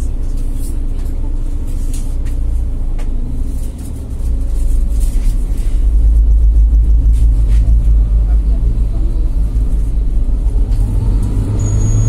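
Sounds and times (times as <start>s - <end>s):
bus engine deep rumble: 0.0s - 12.0s.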